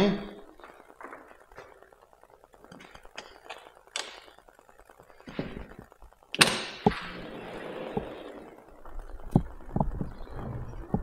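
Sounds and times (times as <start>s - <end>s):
outdoor air hiss: 0.0s - 11.0s.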